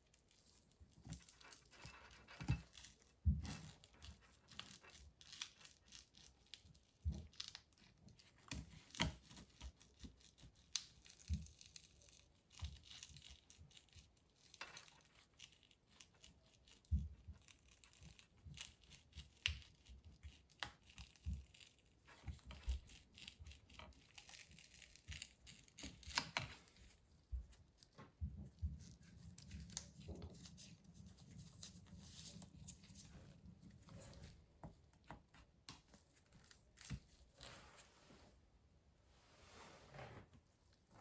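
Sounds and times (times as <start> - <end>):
scraping crackling and tearing: 0.1 - 38.0.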